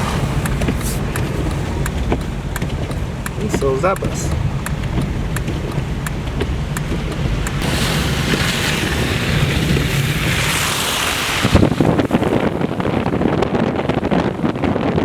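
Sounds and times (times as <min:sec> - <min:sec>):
car driving on slushy street: 0:00.0 - 0:15.0.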